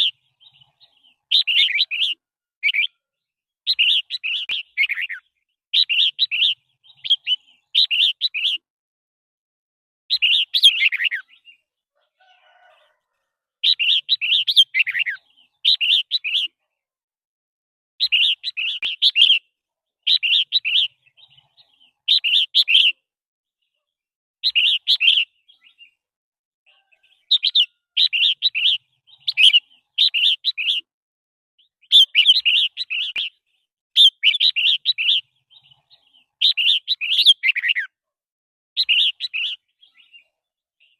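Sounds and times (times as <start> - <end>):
bird singing warbling phrases: 0.0 - 8.7, 10.1 - 12.9, 13.6 - 16.8, 18.0 - 26.0, 26.7 - 30.9, 31.6 - 38.0, 38.8 - 40.9.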